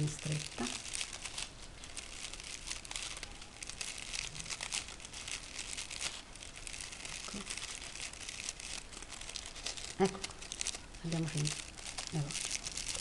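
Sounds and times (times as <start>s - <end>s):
crepe paper rustling and crinkling: 0.0s - 13.0s.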